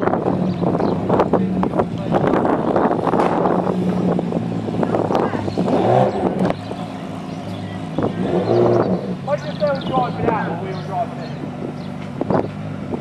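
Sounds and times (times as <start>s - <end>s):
sports car engine running: 0.0s - 13.0s.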